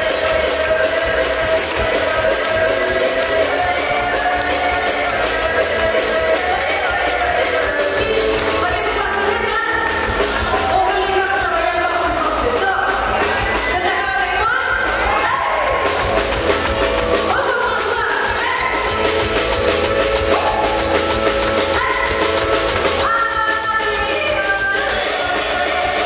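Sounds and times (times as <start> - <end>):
woman singing: 0.0 - 15.6, 17.3 - 19.0, 21.4 - 26.0
drum kit: 0.0 - 26.0
electric bass: 0.0 - 26.0.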